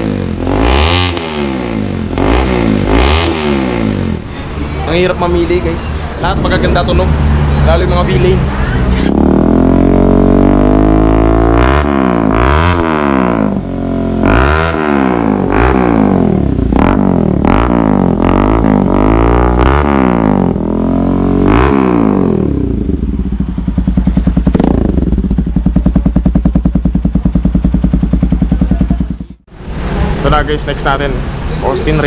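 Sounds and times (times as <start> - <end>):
motorcycle engine revving: 0.0 - 30.2.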